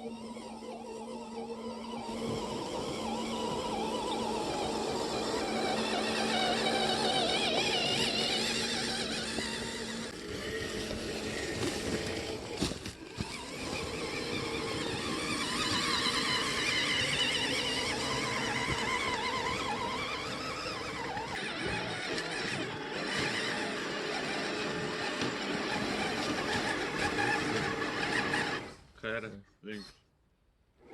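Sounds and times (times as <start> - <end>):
toy truck electric motor whining: 0.0 - 28.8.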